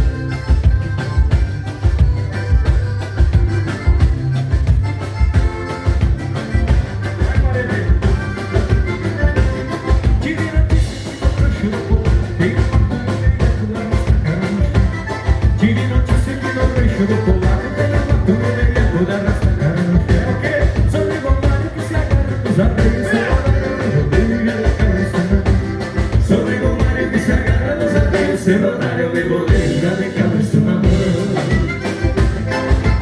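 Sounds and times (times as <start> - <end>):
bass: 0.0 - 33.0
live dance band playing: 0.0 - 33.0
steady drum beat: 0.0 - 33.0.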